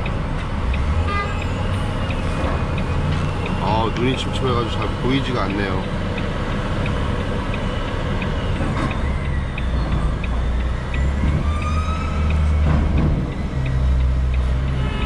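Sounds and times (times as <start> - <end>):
light ticking: 0.0 - 11.4, 12.2 - 15.0.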